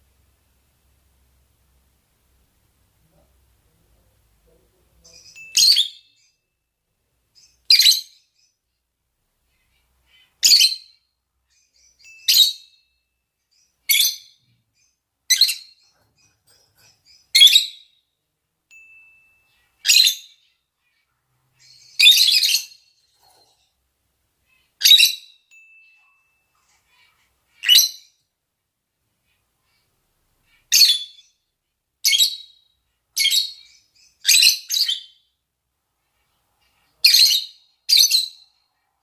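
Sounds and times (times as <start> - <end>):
lovebirds high-pitched calls: 4.8 - 8.7, 9.4 - 28.3, 29.2 - 35.4, 36.0 - 39.0.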